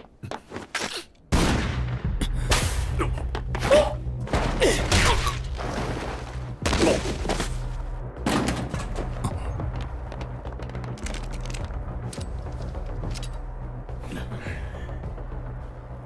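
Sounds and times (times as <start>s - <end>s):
low droning music: 1.3s - 16.0s.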